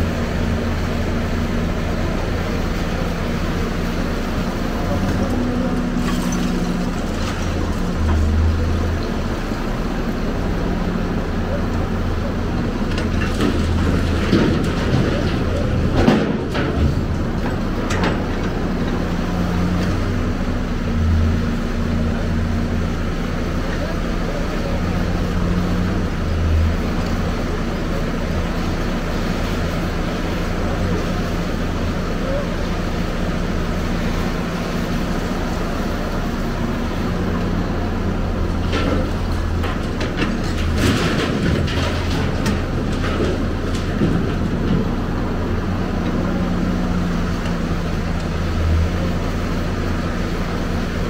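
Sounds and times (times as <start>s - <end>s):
excavator diesel engine droning: 0.0s - 51.0s.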